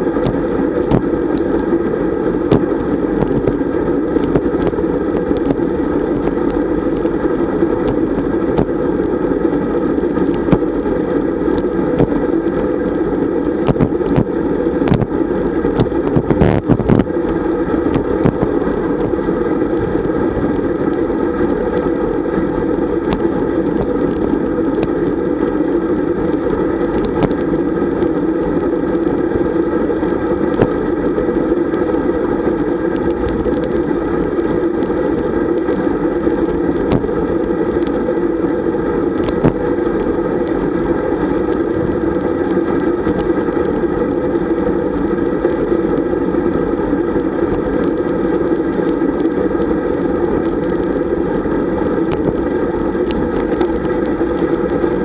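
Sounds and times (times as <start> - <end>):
wind rush: 0.0 - 46.8.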